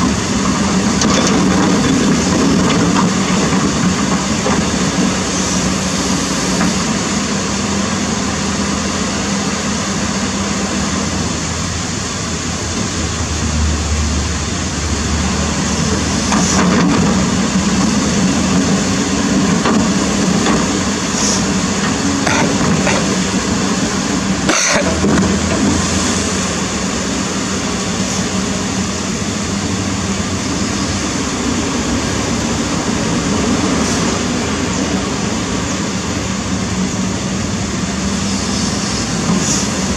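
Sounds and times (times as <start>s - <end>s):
excavator diesel engine running: 0.0s - 39.9s
rushing water: 0.0s - 39.9s.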